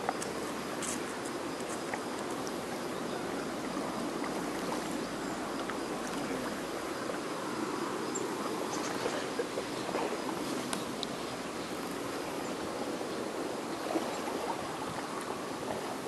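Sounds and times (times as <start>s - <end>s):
seawater lapping at shoreline: 0.0s - 16.0s
small water splashes: 0.0s - 16.0s.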